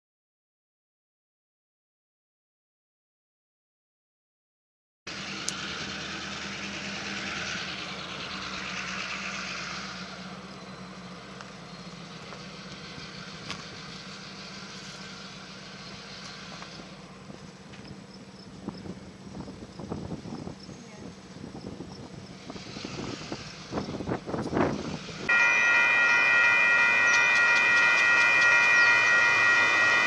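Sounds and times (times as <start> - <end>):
low engine hum: 5.1 - 30.0.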